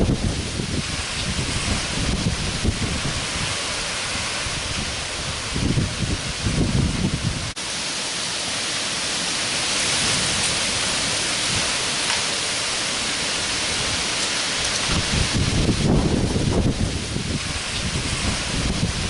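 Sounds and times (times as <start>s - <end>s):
wind buffeting microphone: 0.0s - 7.6s, 9.7s - 19.0s
heavy rain falling: 0.0s - 19.0s.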